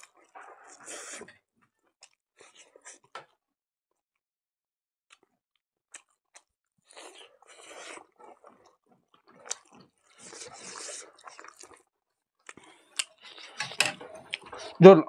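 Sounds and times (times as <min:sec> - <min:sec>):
person chewing food: 0:00.0 - 0:03.4, 0:05.9 - 0:14.8.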